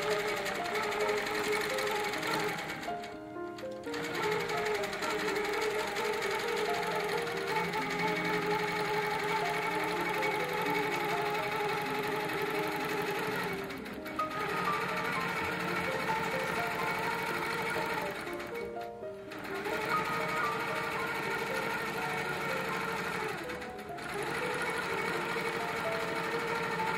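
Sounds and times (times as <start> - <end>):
background music: 0.0 - 26.9
quilting machine stitching: 0.0 - 26.9.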